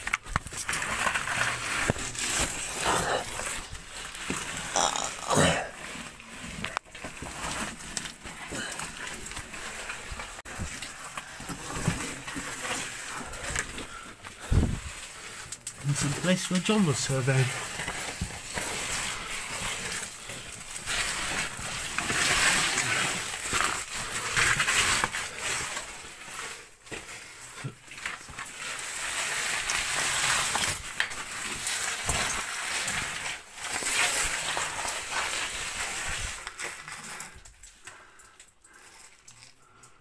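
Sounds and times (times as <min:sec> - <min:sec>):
rustling and scraping on rock: 0:00.0 - 0:40.0.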